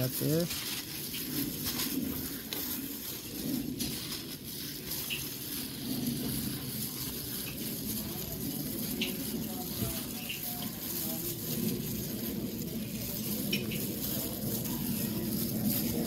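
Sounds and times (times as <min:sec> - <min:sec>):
flour rustling and scraping in tray: 0:00.0 - 0:16.0.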